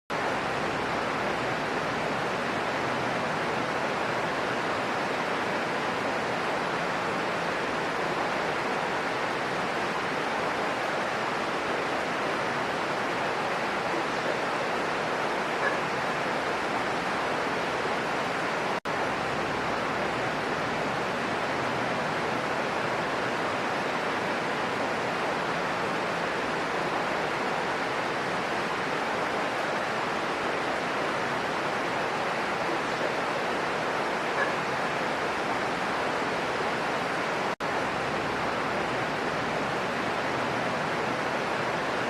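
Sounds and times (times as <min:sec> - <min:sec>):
heavy rain falling: 0:00.1 - 0:42.0.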